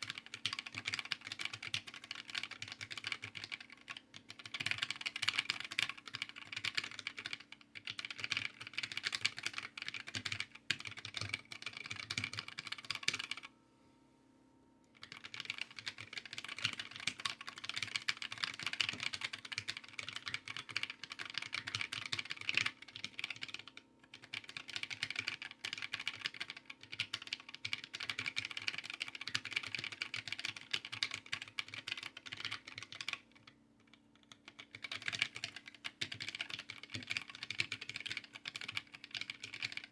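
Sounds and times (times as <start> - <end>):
mechanical keyboard typing: 0.0 - 13.5, 15.0 - 39.9.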